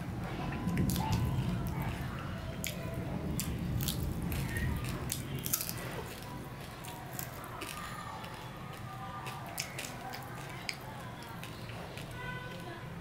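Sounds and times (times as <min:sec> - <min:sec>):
wet chewing and mouth clicks: 0:00.5 - 0:12.8.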